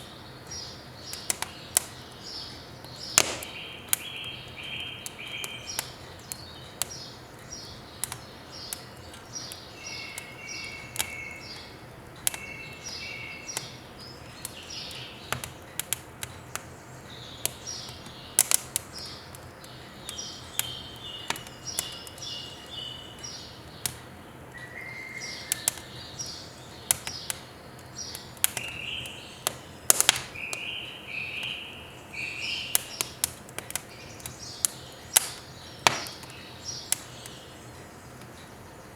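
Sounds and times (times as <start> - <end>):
firewood crackling in a stove: 0.0 - 38.9
small birds chirping: 0.0 - 38.9.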